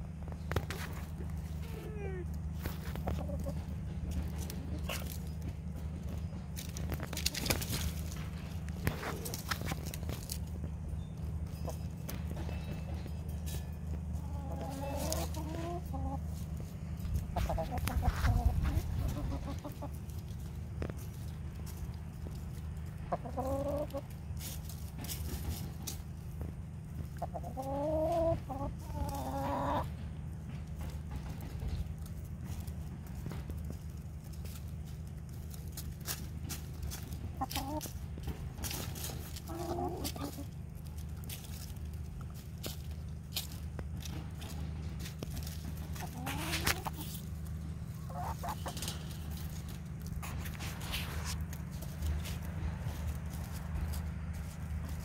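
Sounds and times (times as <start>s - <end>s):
hens clucking: 0.0s - 55.0s
low background rumble: 0.0s - 55.0s.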